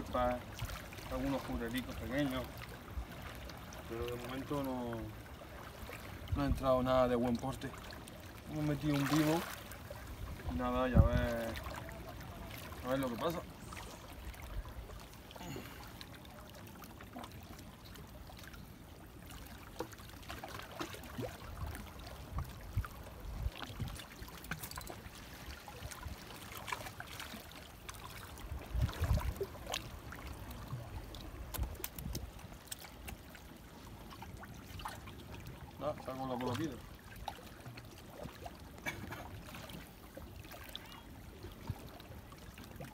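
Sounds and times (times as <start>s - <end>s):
waves lapping against rocks: 0.0s - 42.9s.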